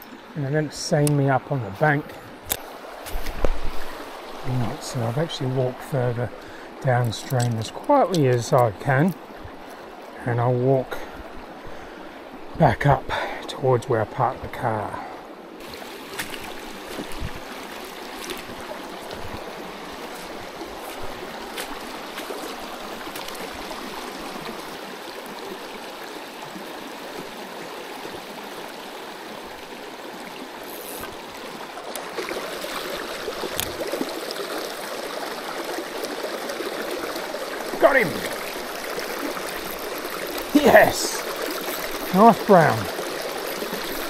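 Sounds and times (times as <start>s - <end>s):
creek water flowing over stones: 0.0s - 44.0s.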